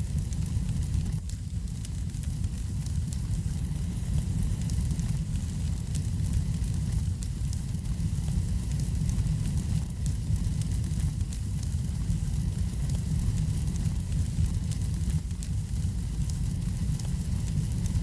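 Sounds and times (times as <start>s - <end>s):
low rumble of flame: 0.0s - 18.0s
wood fire crackling and popping: 0.0s - 18.0s.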